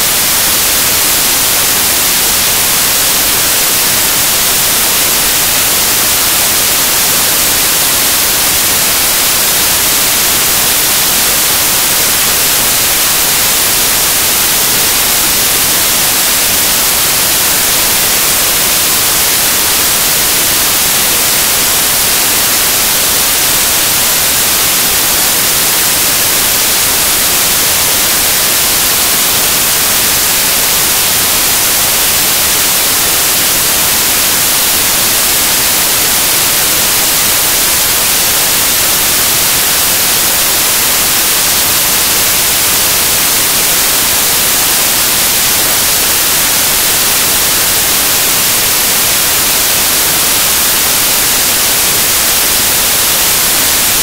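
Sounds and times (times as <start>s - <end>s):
static hiss: 0.0s - 54.0s.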